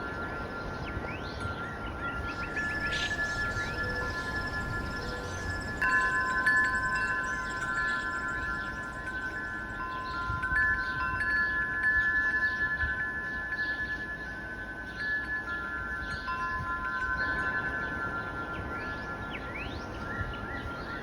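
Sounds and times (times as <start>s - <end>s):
wind chimes ringing: 0.0s - 21.0s.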